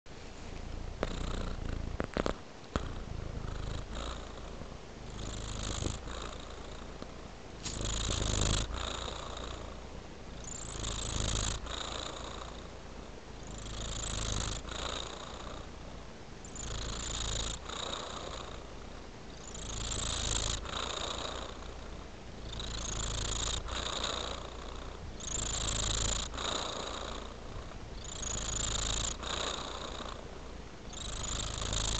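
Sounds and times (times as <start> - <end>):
cat purring: 0.2 - 31.9.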